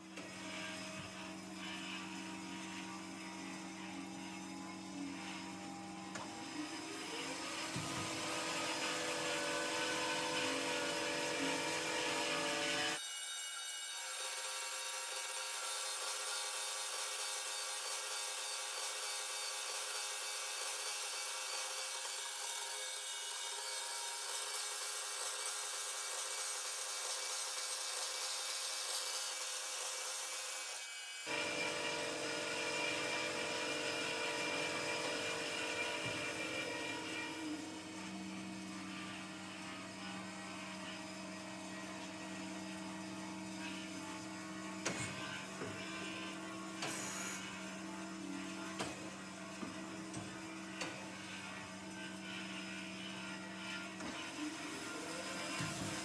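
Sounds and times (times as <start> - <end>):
band saw blade sawing: 0.0 - 56.0.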